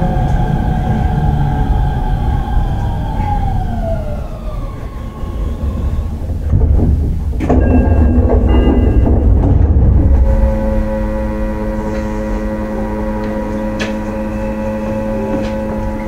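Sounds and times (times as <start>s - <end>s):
steady held tones: 0.0s - 6.6s, 7.4s - 16.0s
electric train motor whine: 0.0s - 16.0s
wheels rumbling on rail: 0.0s - 16.0s.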